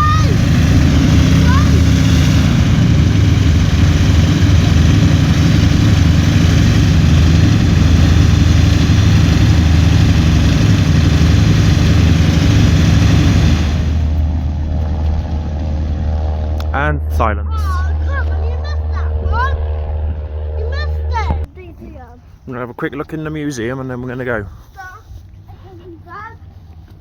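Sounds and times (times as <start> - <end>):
propeller aircraft engine running: 0.0 - 27.0.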